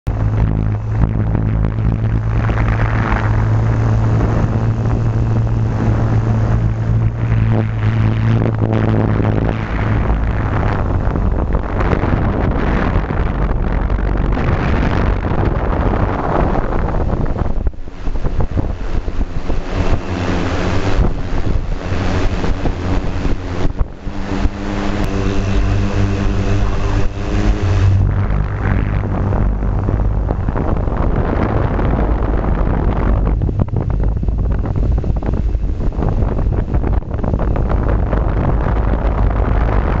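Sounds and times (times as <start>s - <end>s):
low steady hum: 0.0s - 40.0s
wind buffeting microphone: 0.0s - 40.0s.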